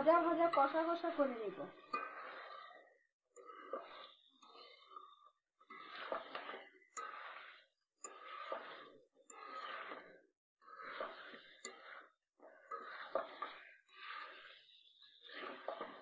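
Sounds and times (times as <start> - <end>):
spatula scraping wok: 0.0 - 16.0.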